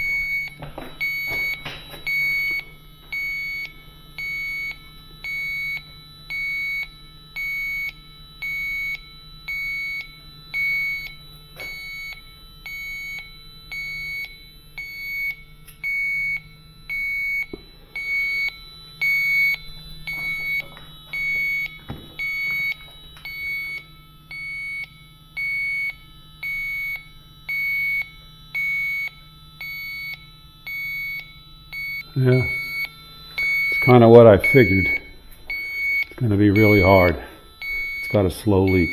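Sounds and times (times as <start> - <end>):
faint low hum: 0.0 - 38.9
leak detector beeping: 0.0 - 38.9.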